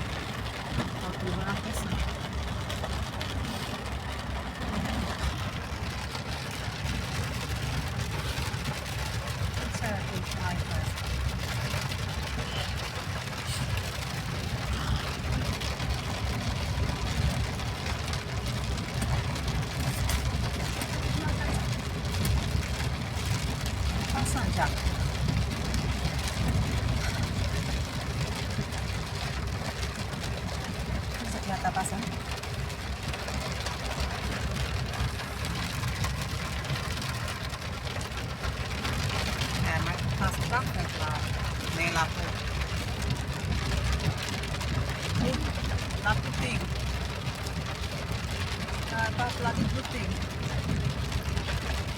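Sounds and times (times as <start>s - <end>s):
engine low rumble: 0.0s - 51.9s
steady rain hissing: 0.0s - 51.9s.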